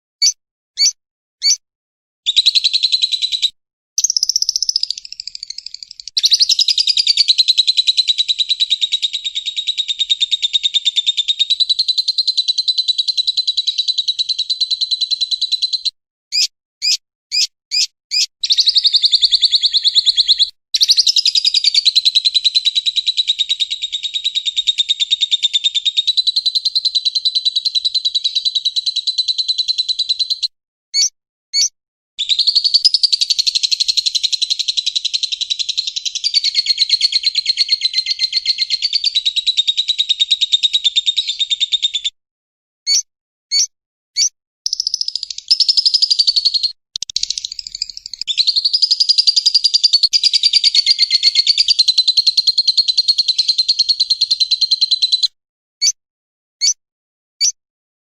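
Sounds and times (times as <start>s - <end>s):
lovebird chirps: 0.2s - 1.6s, 2.3s - 42.2s, 42.9s - 56.0s
lovebird trilling: 0.2s - 1.6s, 2.3s - 29.0s, 31.0s - 39.9s, 42.9s - 53.6s.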